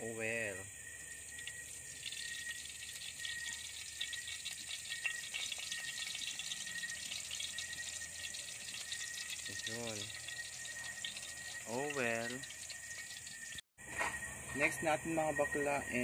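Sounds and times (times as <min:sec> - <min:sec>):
oil sizzling in hot wok: 0:00.8 - 0:13.6.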